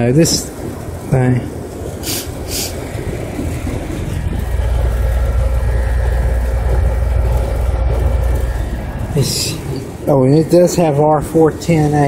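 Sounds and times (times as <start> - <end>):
faint whine: 0.0 - 12.0
heat pump hum and rumble: 0.0 - 12.0.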